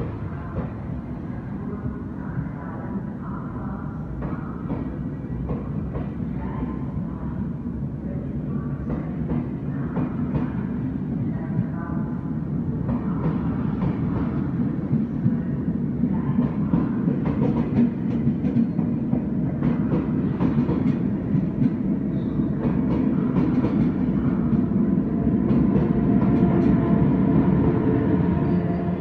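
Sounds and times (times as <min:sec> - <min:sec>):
electric locomotive passing: 0:00.0 - 0:29.0
train coaches rumbling past: 0:00.0 - 0:29.0.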